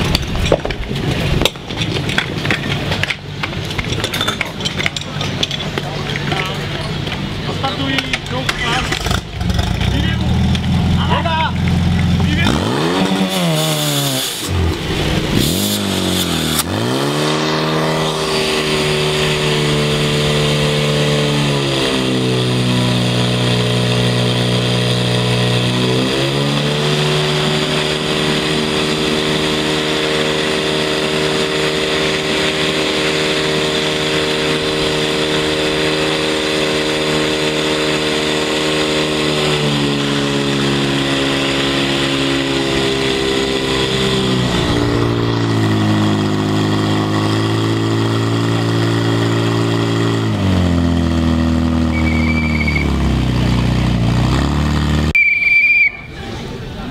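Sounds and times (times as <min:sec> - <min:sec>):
fire pump engine revving: 0:00.0 - 0:56.9.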